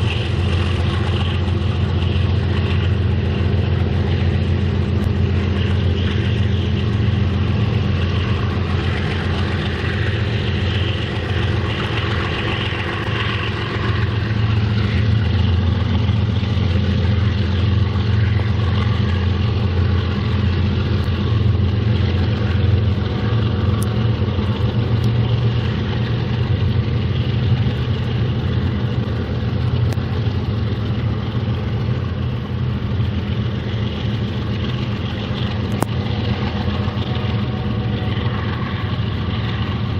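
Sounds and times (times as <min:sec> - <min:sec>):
locomotive engines droning: 0:00.0 - 0:39.9.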